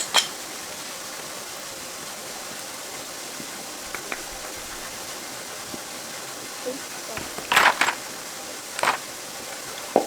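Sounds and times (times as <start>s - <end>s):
steady hissing noise: 0.0s - 10.0s.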